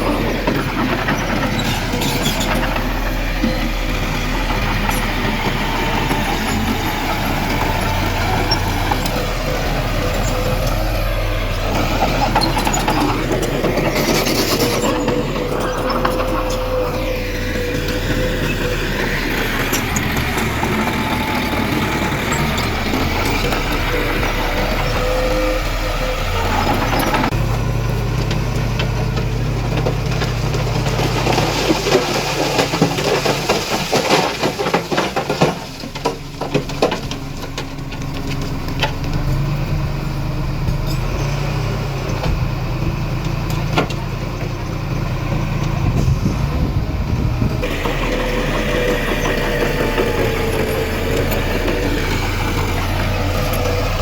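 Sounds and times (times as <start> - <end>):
clanking and rattling: 0.0 - 54.0
heavy diesel machinery engine: 0.0 - 54.0.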